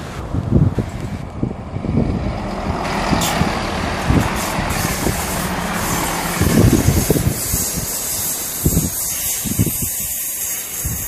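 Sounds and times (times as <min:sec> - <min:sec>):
diesel train engine: 0:00.0 - 0:11.0
train wheels rumbling on rails: 0:00.0 - 0:11.0.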